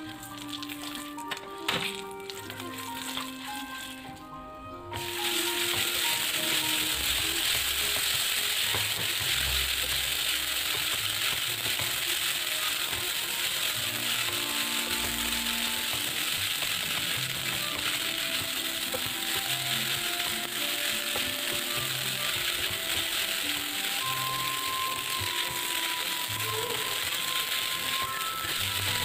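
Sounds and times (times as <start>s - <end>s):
noodles sizzling in a wok: 0.0s - 29.0s
soft background music: 0.0s - 29.0s
spatula scraping a wok: 4.9s - 29.0s.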